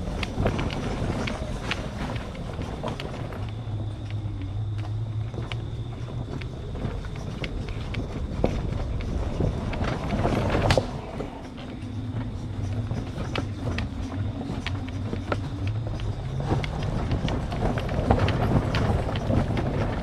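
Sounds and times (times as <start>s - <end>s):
knocks and clicks over rough ground: 0.0s - 20.0s.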